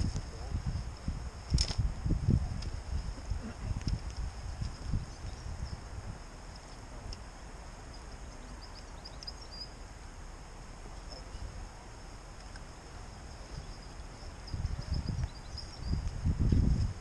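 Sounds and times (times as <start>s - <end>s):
wind rumbling on microphone: 0.0s - 9.7s, 10.5s - 17.0s
steady outdoor hiss: 0.0s - 17.0s
faint birds chirping: 2.5s - 17.0s.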